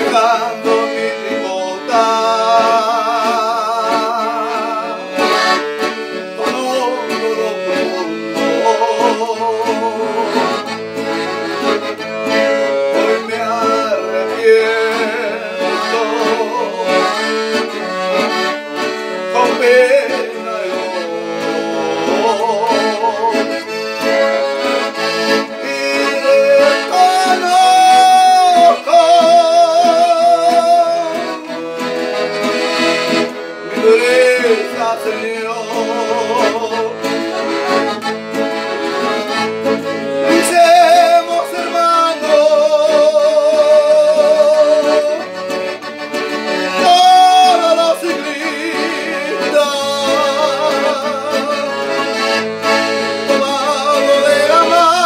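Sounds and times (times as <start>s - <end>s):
accordion melody: 0.0s - 55.0s
acoustic guitar: 0.0s - 55.0s.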